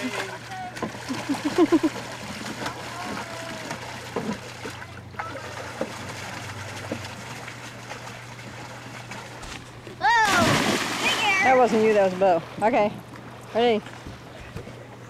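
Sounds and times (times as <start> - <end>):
paddle wheel churning water: 0.0 - 15.0.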